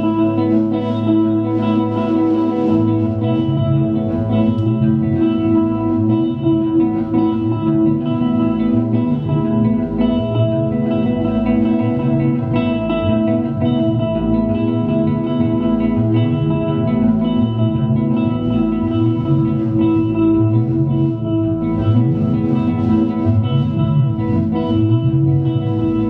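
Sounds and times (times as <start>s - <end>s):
echoing electric guitar chords: 0.0s - 26.0s
indie rock band playing: 0.0s - 26.0s.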